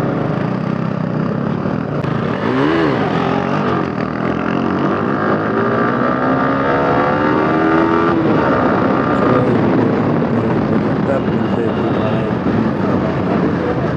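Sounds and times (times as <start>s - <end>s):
motorcycle engine accelerating: 0.0s - 13.9s.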